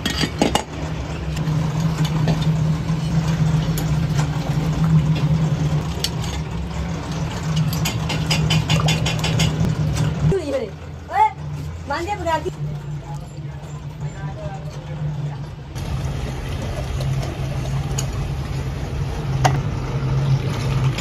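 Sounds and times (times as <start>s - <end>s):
machinery humming: 0.0s - 21.0s.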